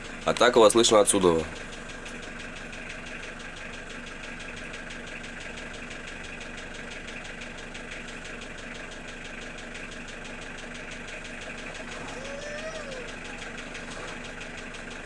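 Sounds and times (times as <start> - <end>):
car engine idling: 0.0 - 15.0
rapid engine knock: 0.0 - 15.0.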